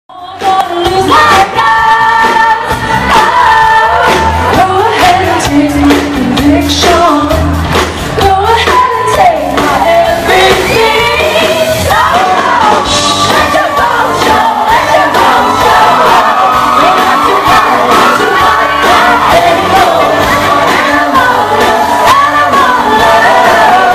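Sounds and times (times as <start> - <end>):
woman singing into a microphone: 0.1 - 23.9
live band playing: 0.2 - 23.9.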